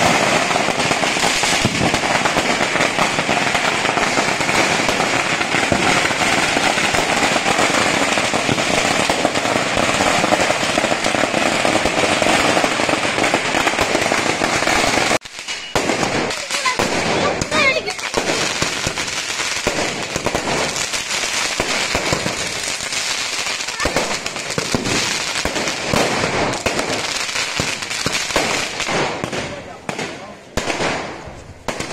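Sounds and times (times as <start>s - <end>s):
firecrackers crackling: 0.0s - 31.9s.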